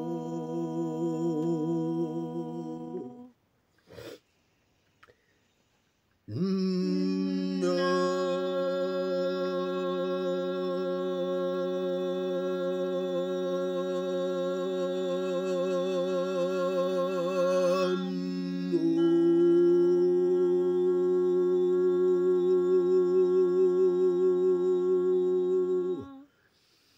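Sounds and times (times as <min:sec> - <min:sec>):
chant-like humming voices: 0:00.0 - 0:03.3, 0:06.3 - 0:26.3.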